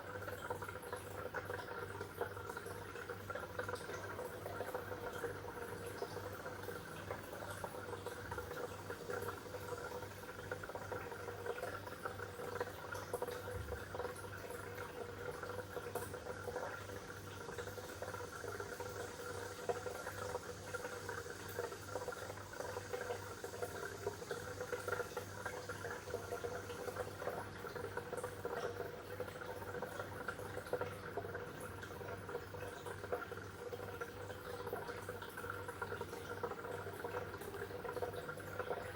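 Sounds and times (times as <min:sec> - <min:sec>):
low constant hum: 0:00.0 - 0:38.9
water bubbling and gurgling: 0:00.0 - 0:38.9.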